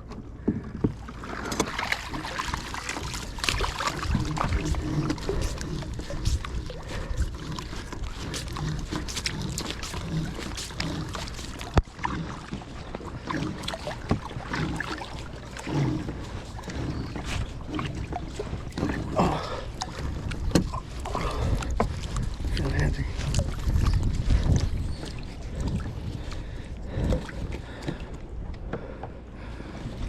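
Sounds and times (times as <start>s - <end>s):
knocks and clicks against hull: 0.0s - 30.0s
water noise: 0.0s - 30.0s.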